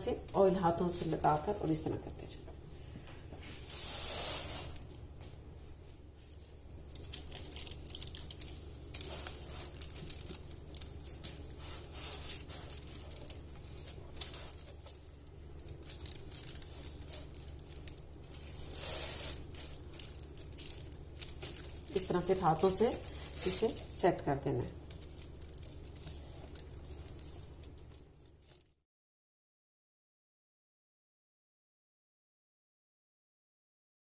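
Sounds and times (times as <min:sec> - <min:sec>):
aluminium foil crinkling: 0:00.0 - 0:05.1, 0:06.1 - 0:28.8.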